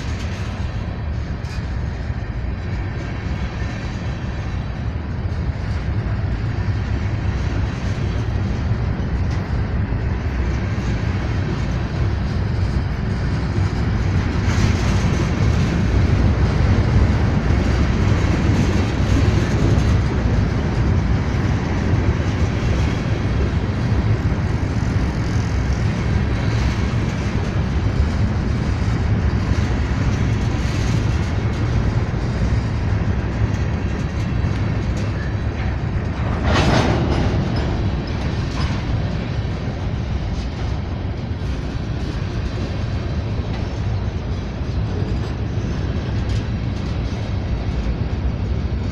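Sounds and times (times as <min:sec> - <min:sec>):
freight train cars rolling past: 0:00.0 - 0:48.9.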